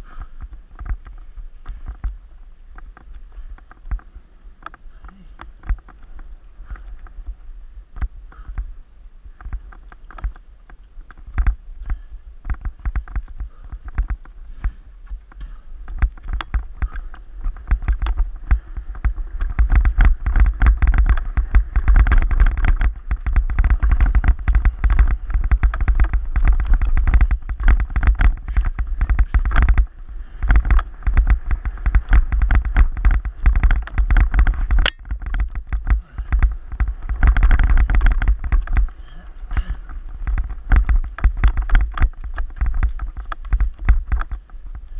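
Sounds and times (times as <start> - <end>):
bike rattling over rough ground: 0.0 - 44.9
wind rumble on microphone: 0.0 - 44.9.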